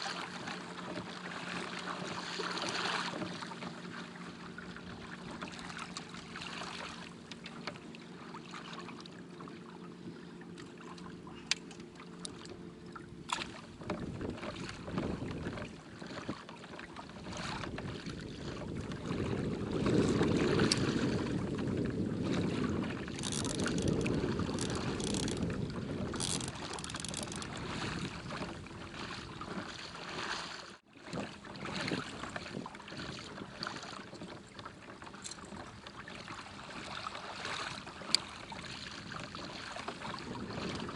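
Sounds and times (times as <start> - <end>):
water lapping against kayak hull: 0.0 - 40.9.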